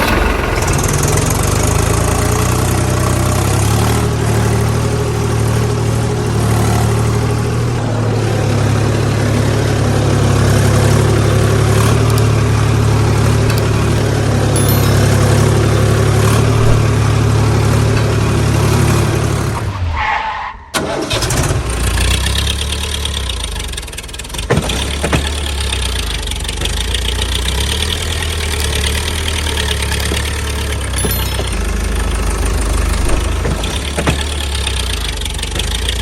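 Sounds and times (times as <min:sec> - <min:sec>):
tractor engine running: 0:00.0 - 0:19.8, 0:20.8 - 0:36.0.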